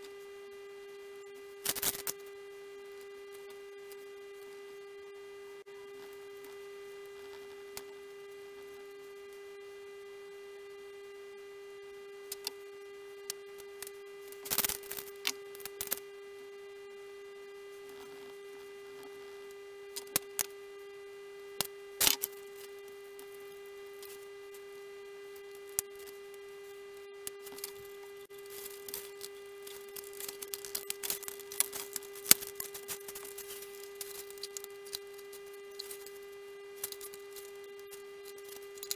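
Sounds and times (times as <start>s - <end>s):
electrical hum with higher tones: 0.0s - 38.9s.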